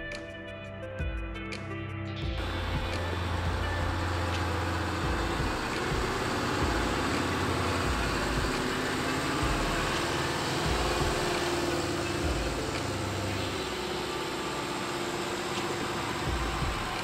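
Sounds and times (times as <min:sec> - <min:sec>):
diesel truck engine droning: 0:02.4 - 0:17.0.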